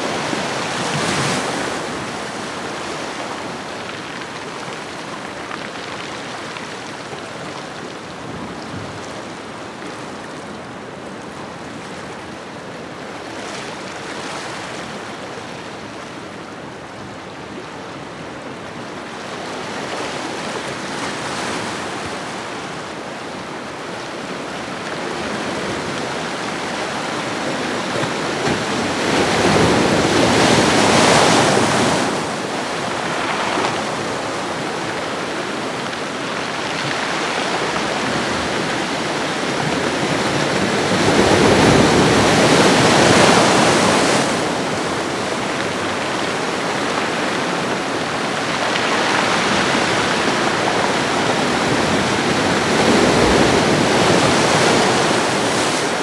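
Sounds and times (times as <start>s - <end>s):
ocean waves washing onto shore: 0.0s - 10.3s, 18.6s - 56.0s.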